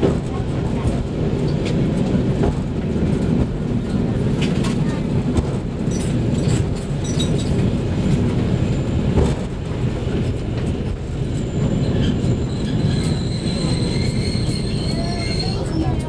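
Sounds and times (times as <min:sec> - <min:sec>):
railcar engine and wheels rumbling: 0:00.0 - 0:16.0.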